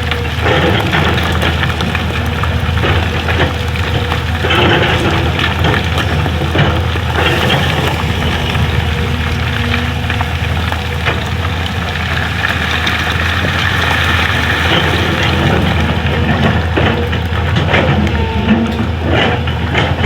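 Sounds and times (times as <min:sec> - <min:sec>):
excavator diesel engine running: 0:00.0 - 0:20.0
knocks and scraping: 0:00.0 - 0:20.0.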